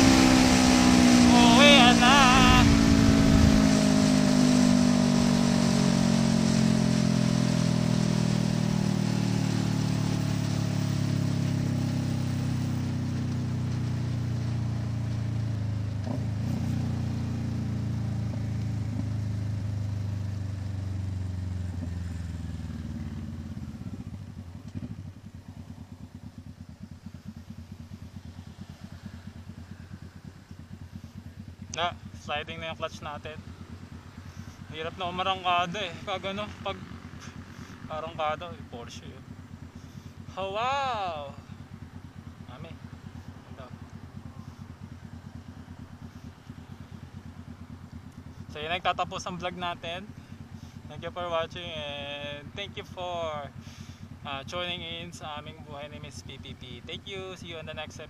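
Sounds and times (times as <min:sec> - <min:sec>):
motorcycle engine revs falling: 0:00.0 - 0:32.3, 0:33.3 - 0:48.6.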